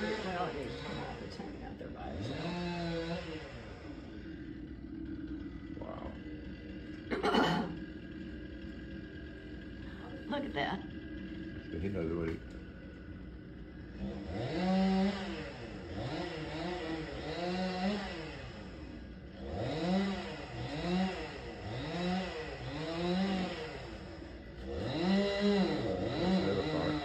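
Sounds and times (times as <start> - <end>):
chainsaw cutting and revving: 0.0 - 13.0, 13.6 - 27.0.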